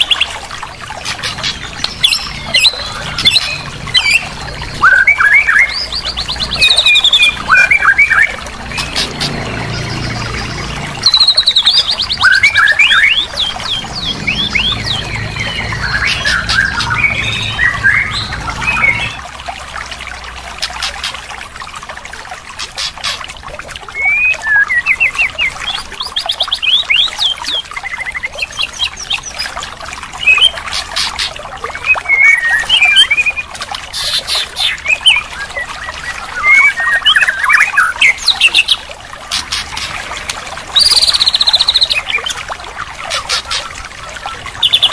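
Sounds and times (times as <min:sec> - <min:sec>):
recorded songbird song: 0:00.0 - 0:19.5, 0:23.8 - 0:44.9.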